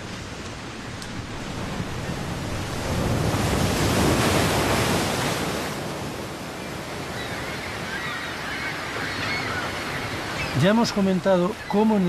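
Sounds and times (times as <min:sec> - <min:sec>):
waves breaking against rocks: 0:00.0 - 0:12.0.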